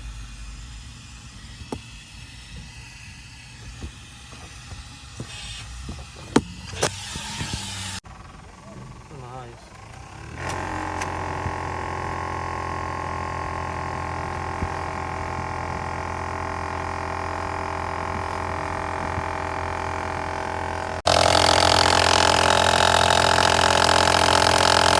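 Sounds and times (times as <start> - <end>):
air conditioning grinding: 0.0 - 24.9.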